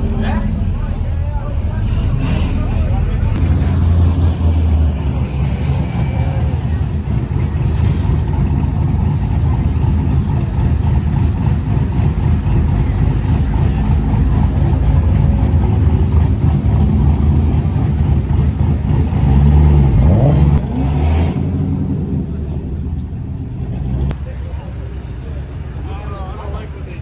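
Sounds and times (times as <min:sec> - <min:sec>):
car engine running: 0:00.0 - 0:20.7, 0:21.4 - 0:24.2
road noise: 0:00.0 - 0:27.0.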